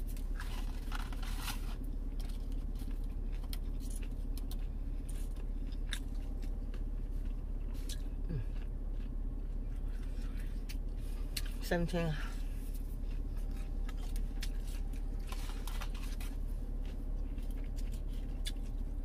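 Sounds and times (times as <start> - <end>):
person chewing: 0.0 - 19.0
steady low hum: 0.0 - 19.0.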